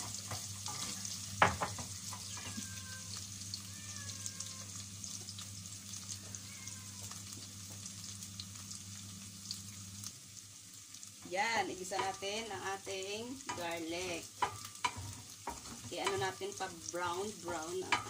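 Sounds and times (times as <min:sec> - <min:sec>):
garlic sizzling in hot oil: 0:00.0 - 0:18.0.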